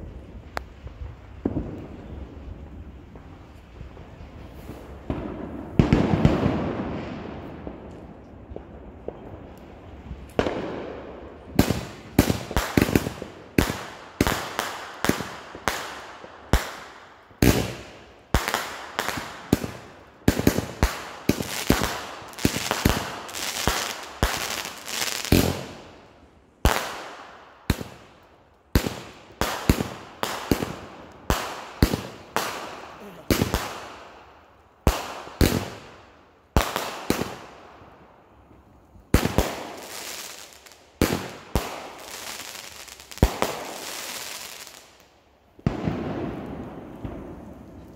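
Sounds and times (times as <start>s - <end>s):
fireworks bangs: 0.0s - 26.0s, 26.6s - 34.2s, 34.8s - 37.6s, 39.1s - 44.9s, 45.6s - 47.9s.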